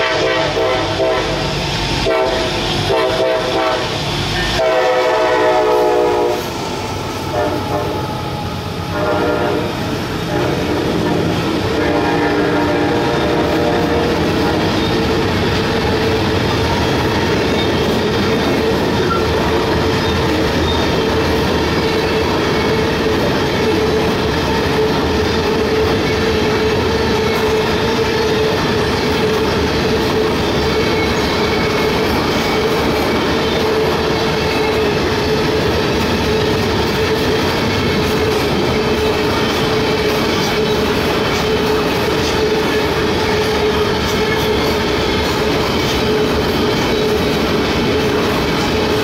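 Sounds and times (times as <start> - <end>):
train wheels rumbling on rail: 0.0 - 49.0.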